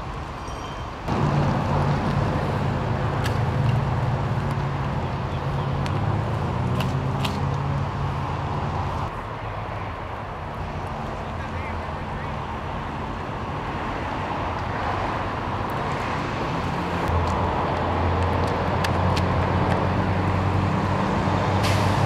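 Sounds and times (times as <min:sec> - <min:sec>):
large vehicle engine humming: 0:01.0 - 0:22.0.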